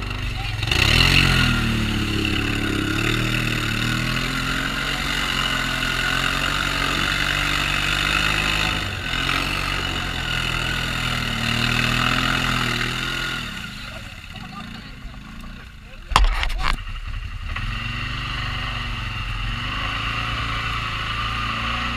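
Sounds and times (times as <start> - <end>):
quad bike engine running: 0.0 - 21.9.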